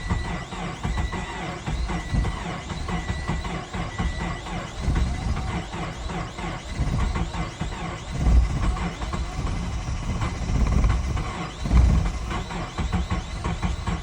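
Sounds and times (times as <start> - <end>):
car engine cranking unevenly: 0.0 - 14.0.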